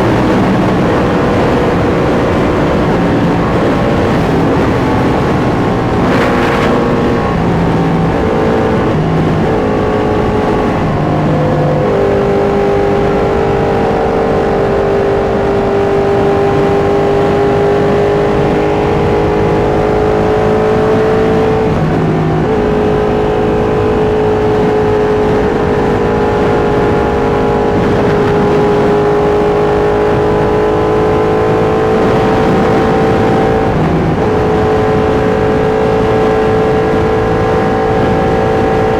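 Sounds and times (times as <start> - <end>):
motorcycle engine shifting gears: 0.0 - 38.9
wind rush: 0.0 - 38.9.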